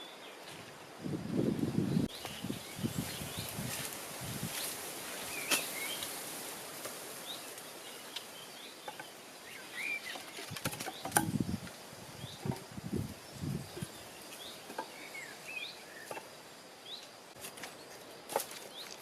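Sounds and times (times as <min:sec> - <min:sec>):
birds chirping: 0:01.3 - 0:06.3, 0:07.1 - 0:19.0.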